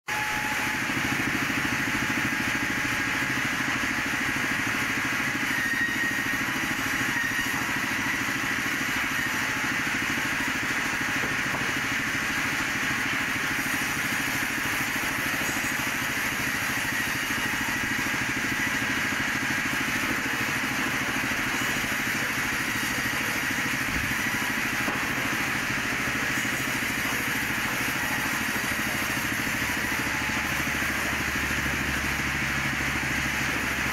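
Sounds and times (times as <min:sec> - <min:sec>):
band saw cutting log: 0:00.1 - 0:33.9.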